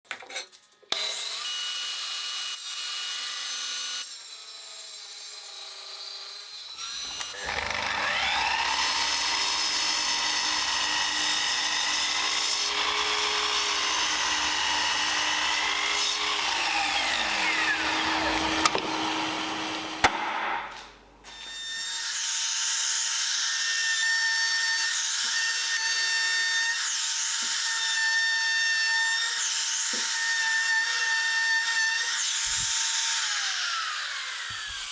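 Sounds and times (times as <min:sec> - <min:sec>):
power tools cutting plywood: 0:00.9 - 0:34.9.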